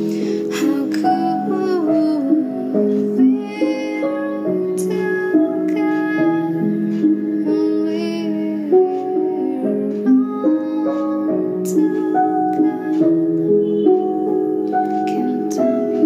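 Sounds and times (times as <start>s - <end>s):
acoustic accompaniment: 0.0s - 16.0s
woman singing softly: 0.0s - 16.0s.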